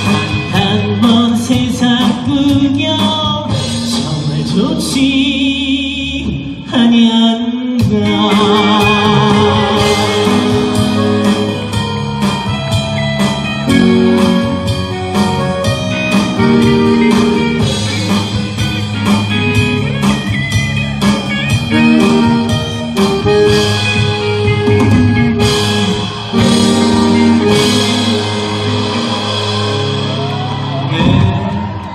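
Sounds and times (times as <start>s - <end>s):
drum kit beat: 0.0s - 5.4s, 7.8s - 31.9s
bass guitar: 0.0s - 31.9s
electric guitar: 0.0s - 31.9s.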